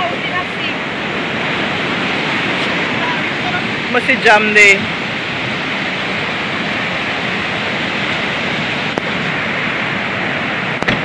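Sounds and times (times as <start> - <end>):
surf breaking on stony shore: 0.0 - 11.0.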